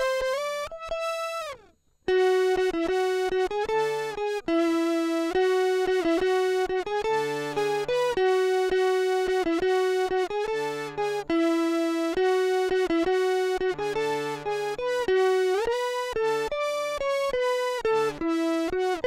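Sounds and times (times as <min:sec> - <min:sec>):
quieter lower guitar part: 0:00.0 - 0:19.0
synth guitar melody: 0:00.0 - 0:19.0.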